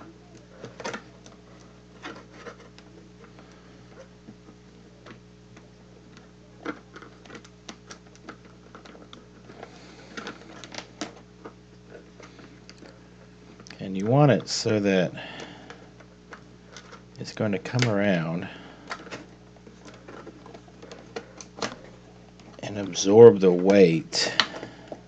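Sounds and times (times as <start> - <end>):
clicks of hands handling wire: 0.0 - 25.0
steady low hum: 0.0 - 25.0.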